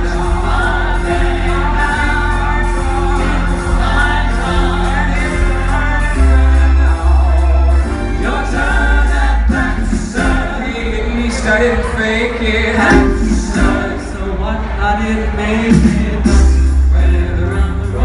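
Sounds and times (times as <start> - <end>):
instrumental backing with heavy bass: 0.0 - 18.0
male vocal group singing: 0.0 - 18.0.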